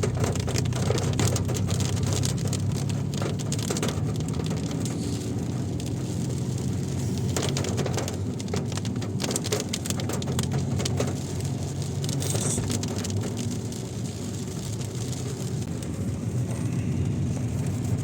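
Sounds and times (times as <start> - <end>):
engine and road noise: 0.0 - 18.0
rain drops hitting car: 0.0 - 18.0.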